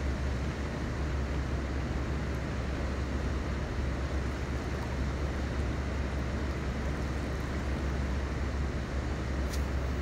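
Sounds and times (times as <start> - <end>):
constant hiss: 0.0 - 10.0.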